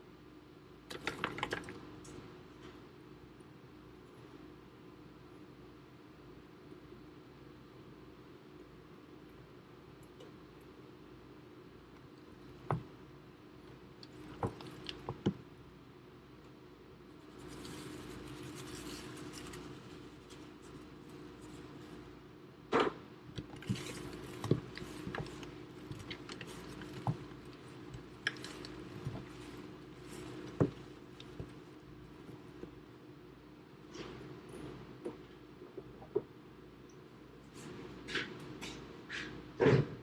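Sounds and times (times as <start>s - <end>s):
steady low hum: 1.7s - 40.0s.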